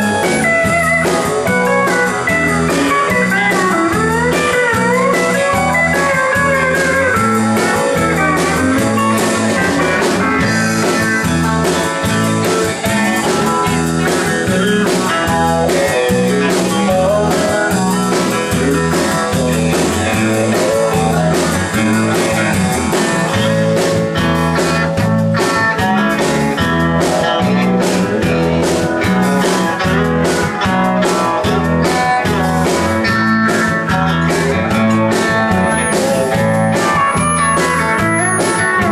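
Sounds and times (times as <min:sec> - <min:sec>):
electric guitars: 0:00.0 - 0:38.9
percussive beat: 0:00.0 - 0:38.9
pulsing bass line: 0:00.0 - 0:38.9.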